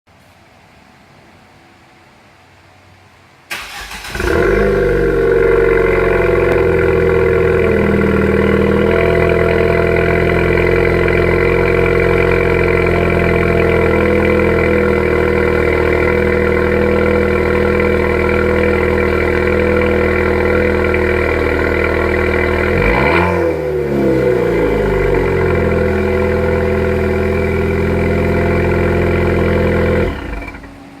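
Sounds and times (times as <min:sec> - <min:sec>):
engine revving: 0:03.5 - 0:30.8
car engine starting and idling: 0:03.5 - 0:31.0.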